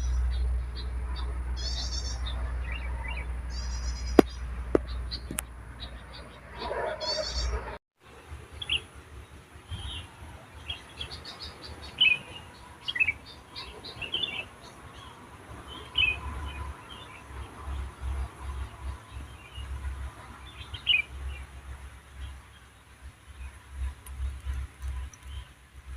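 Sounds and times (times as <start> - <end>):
birds chirping and twittering: 0.0 - 25.7.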